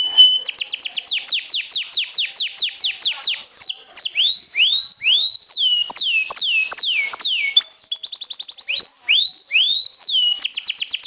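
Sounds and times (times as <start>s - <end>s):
canary singing whistled trill: 0.0s - 11.0s.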